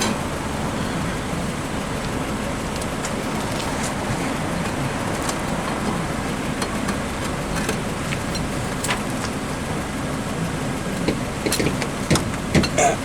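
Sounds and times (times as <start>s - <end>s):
steady rushing noise: 0.0s - 12.5s.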